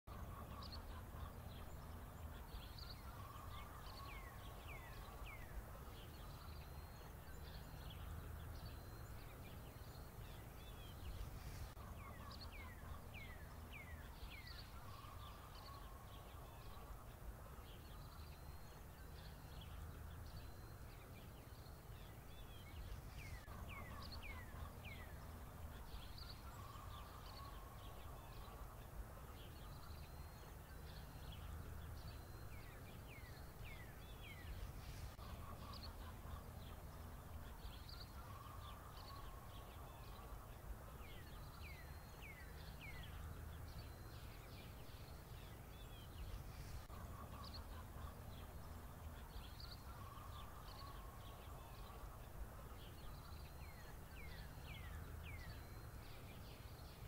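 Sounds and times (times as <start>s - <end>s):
birdsong chirps and falling whistles: 0.1s - 57.0s
low steady hum: 0.1s - 57.0s.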